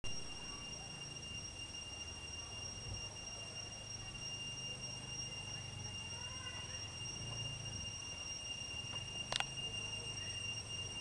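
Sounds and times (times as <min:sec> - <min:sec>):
cicadas singing: 0:00.0 - 0:11.0.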